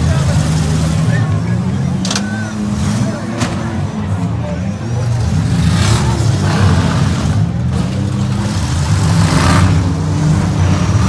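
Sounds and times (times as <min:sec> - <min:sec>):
vehicle engines revving: 0:00.0 - 0:11.0.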